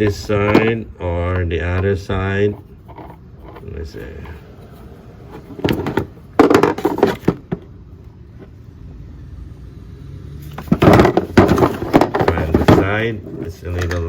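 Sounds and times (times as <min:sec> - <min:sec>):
handle clattering and scraping: 0:00.0 - 0:07.7, 0:10.4 - 0:14.0.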